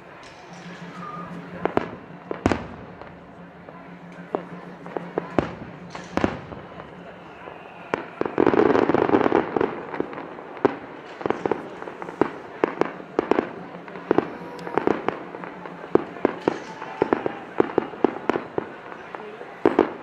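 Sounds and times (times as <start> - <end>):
fireworks bursting with bangs: 0.0 - 20.0.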